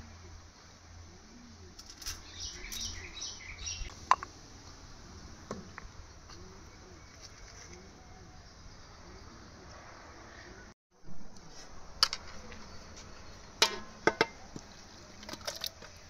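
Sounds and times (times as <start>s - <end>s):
birds chirping: 1.1s - 10.7s, 12.2s - 16.0s.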